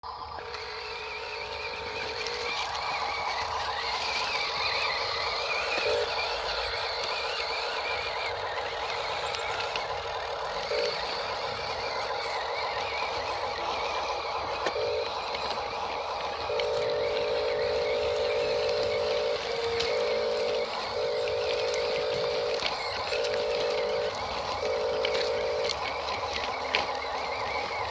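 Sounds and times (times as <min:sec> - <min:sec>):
electric motor and gears whining: 0:00.0 - 0:27.9.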